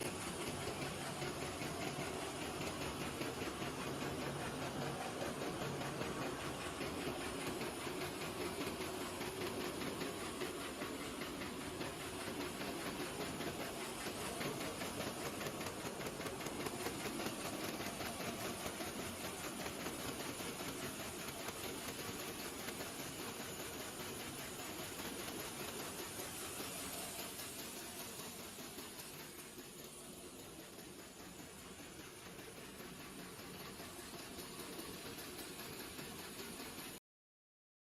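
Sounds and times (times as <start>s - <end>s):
bag making machine hissing: 0.0s - 36.8s.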